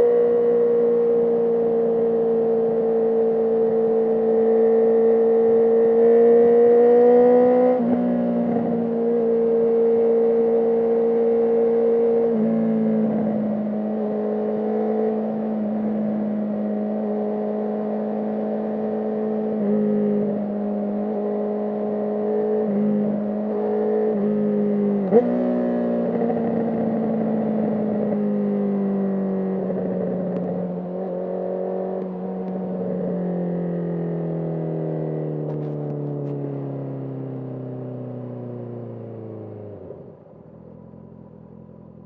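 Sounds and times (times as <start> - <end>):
motorcycle engine and exhaust: 0.0 - 42.0.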